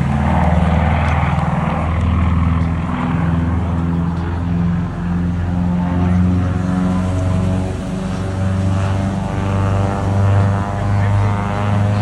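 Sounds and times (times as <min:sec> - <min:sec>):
propeller aircraft engine running: 0:00.0 - 0:12.0.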